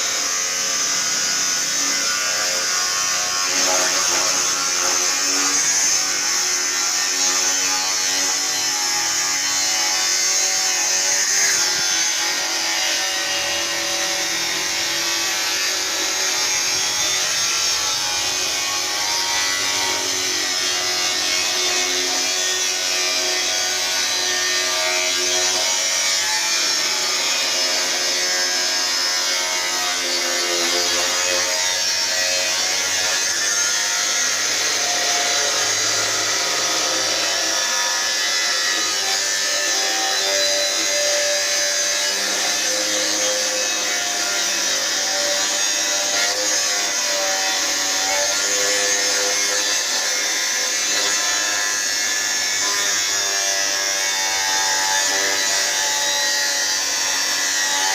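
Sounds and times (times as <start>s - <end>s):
angle grinder cutting steel: 0.0s - 57.9s.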